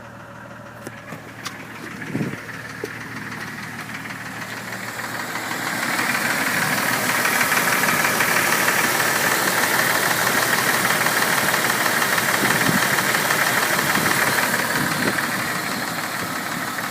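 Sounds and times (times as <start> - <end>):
car engine idling with ticking: 0.0 - 16.9.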